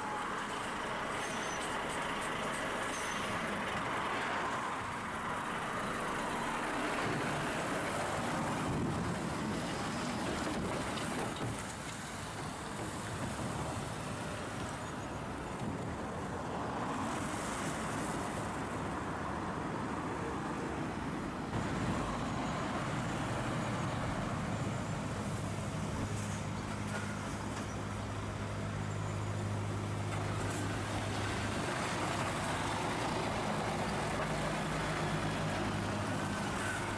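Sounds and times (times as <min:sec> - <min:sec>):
car traffic: 0:00.0 - 0:36.9.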